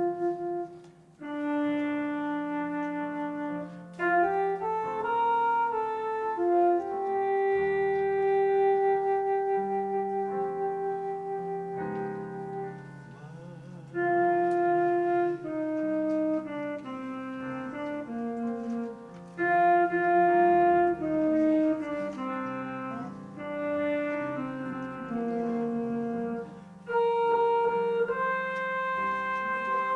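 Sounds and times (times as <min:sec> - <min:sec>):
slow instrumental music: 0:00.0 - 0:29.9.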